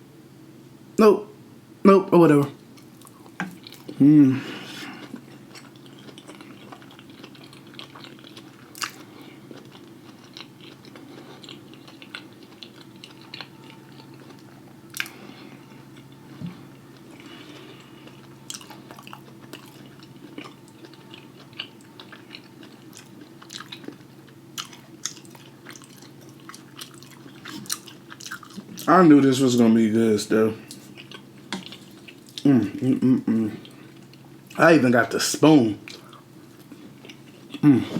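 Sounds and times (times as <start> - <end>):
person chewing and eating: 2.7 - 29.0, 30.0 - 34.6, 35.8 - 37.9.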